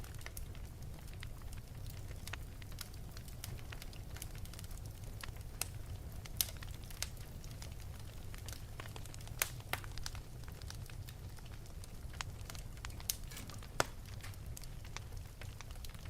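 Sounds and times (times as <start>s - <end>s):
fire crackles and pops: 0.0s - 16.0s
low rumble of flame: 0.0s - 16.0s.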